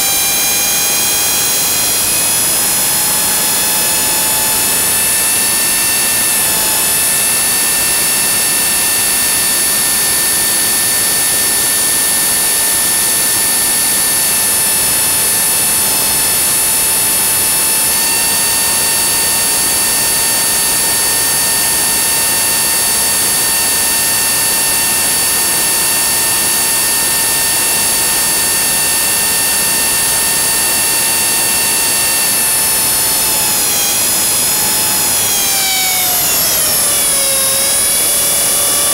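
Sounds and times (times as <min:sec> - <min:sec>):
rc helicopter motor whining: 0:00.0 - 0:38.9.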